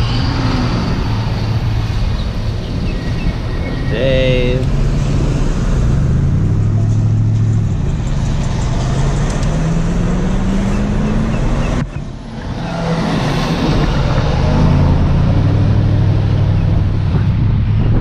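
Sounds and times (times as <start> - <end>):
road noise: 0.0 - 18.0
vehicle engine accelerating: 0.0 - 18.0.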